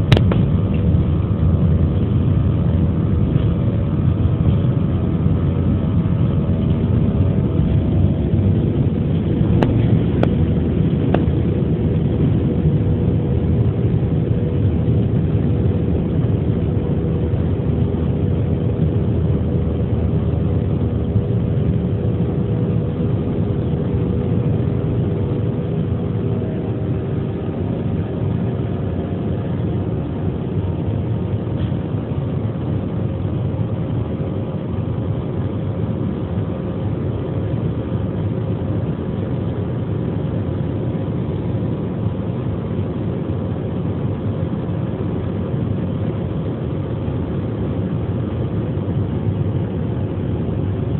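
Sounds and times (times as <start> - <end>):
jet engine roar: 0.0 - 50.9
whining fan tone: 0.0 - 50.9.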